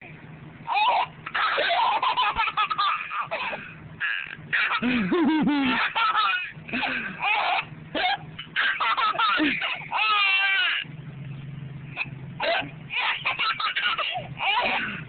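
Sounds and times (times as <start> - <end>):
baby laughing hysterically: 0.7 - 10.9, 12.0 - 15.0.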